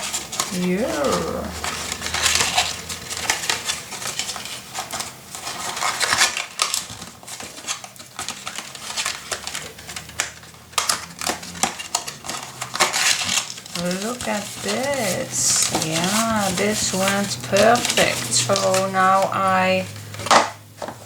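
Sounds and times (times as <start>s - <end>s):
paper rustling and sliding: 0.0s - 21.0s.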